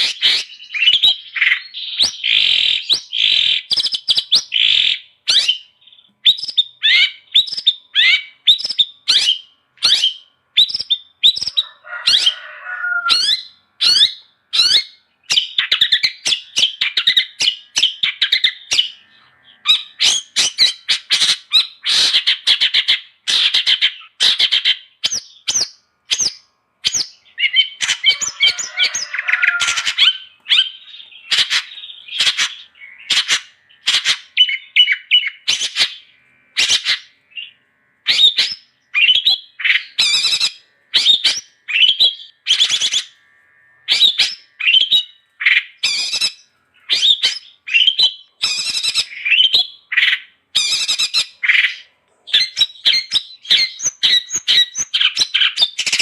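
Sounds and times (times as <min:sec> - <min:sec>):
bird chattering song: 0:00.0 - 0:43.2, 0:43.9 - 0:56.0
warbled bird song: 0:00.0 - 0:56.0.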